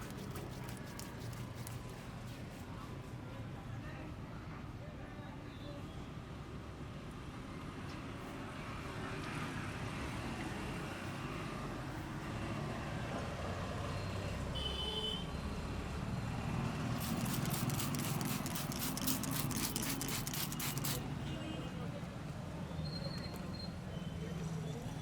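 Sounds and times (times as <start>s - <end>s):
street traffic rumbling: 0.0s - 3.2s, 6.3s - 14.6s, 15.2s - 25.0s.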